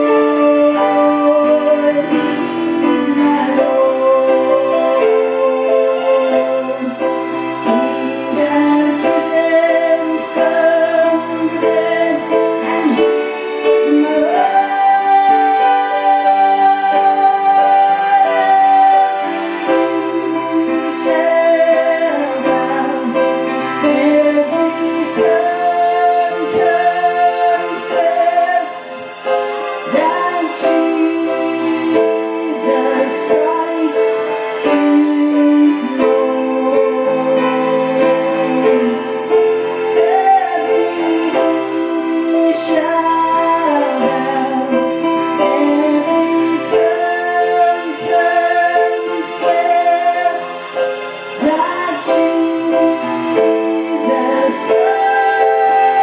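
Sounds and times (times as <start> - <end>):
sustained keyboard chords: 0.0 - 56.0
woman singing: 0.0 - 56.0.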